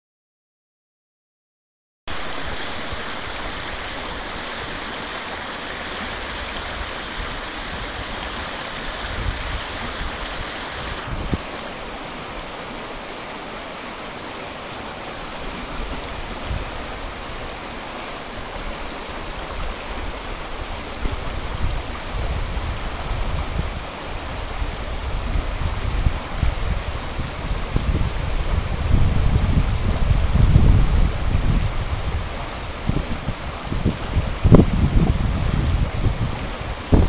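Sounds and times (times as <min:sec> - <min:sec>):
river rapids over rocks: 0:02.1 - 0:34.5
wind buffeting microphone: 0:02.3 - 0:12.8, 0:15.3 - 0:37.0.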